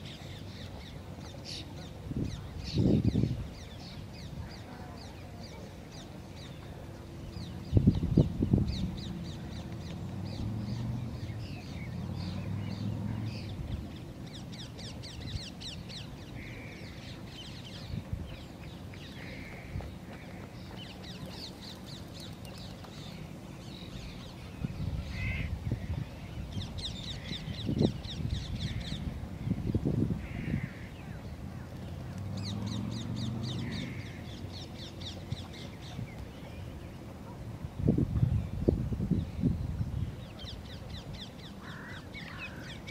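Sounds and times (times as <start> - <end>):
wind rumbling on microphone: 0.0 - 5.2, 5.8 - 42.9
birds chirping: 0.0 - 37.4, 38.2 - 42.9.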